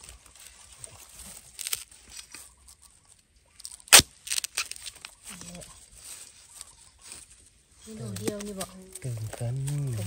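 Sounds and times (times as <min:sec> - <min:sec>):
dry bamboo litter crackling: 0:00.0 - 0:10.0.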